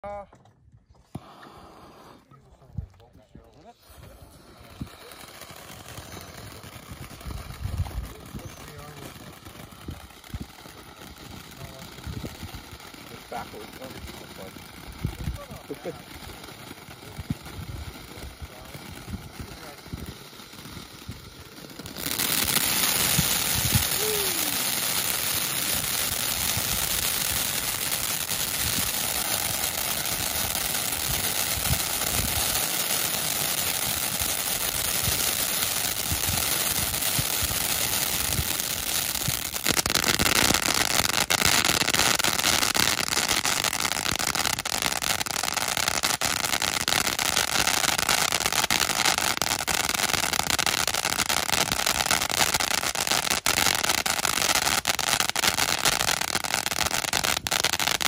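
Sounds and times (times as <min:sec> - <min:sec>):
dense firework crackling: 0:00.8 - 0:58.0
firework fountain hissing: 0:01.0 - 0:58.0.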